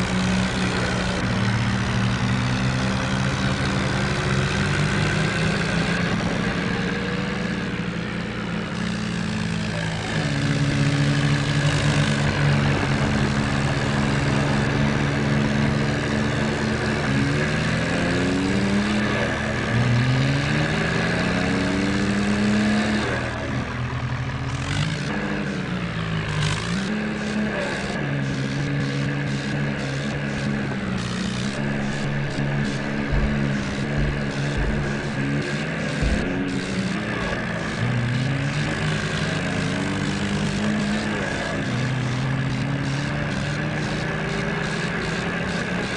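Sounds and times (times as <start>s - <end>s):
tractor diesel engine revving: 0.0s - 45.9s.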